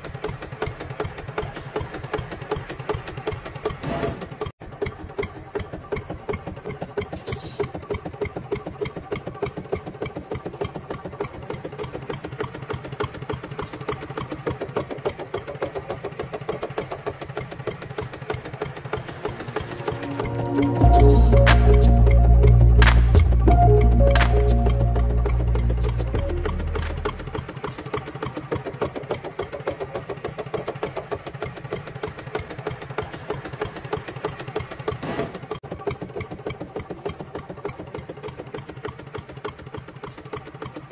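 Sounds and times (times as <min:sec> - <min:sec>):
small engine chugging: 0:00.0 - 0:40.9.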